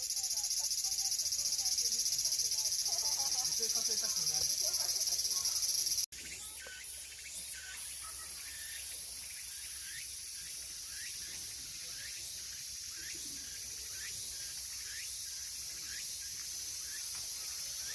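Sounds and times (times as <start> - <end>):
cicadas droning: 0.0 - 17.9.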